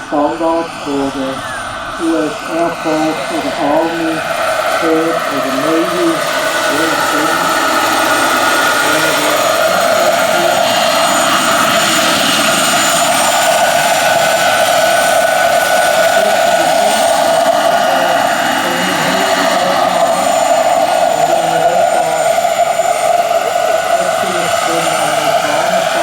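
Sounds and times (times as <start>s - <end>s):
model helicopter turbine whine: 0.0s - 26.0s.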